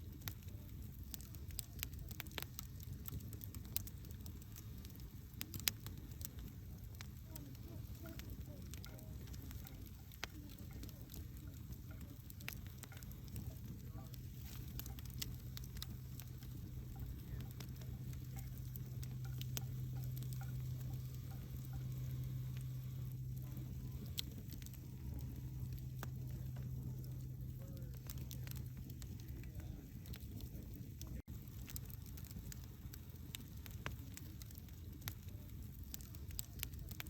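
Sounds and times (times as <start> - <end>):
campfire crackling and popping: 0.0 - 37.0
fire low rumble: 0.0 - 37.0.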